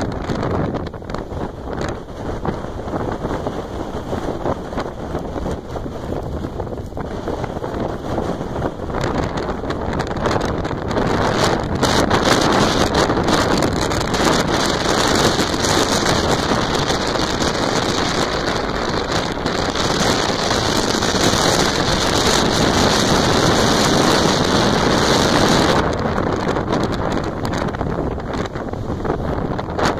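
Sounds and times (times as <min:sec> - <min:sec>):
storm surf breaking on beach: 0:00.0 - 0:29.9
strong wind buffeting microphone: 0:00.0 - 0:29.9.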